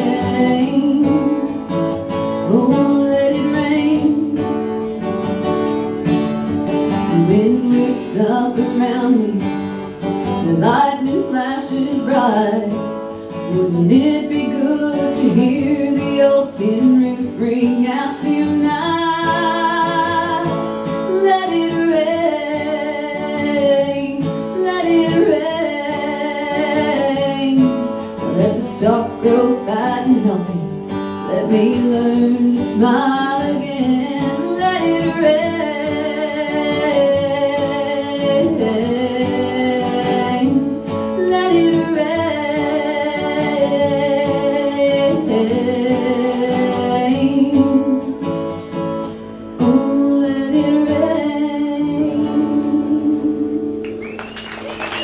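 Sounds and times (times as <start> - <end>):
woman singing: 0.0 - 54.1
strummed acoustic guitar: 0.0 - 55.0.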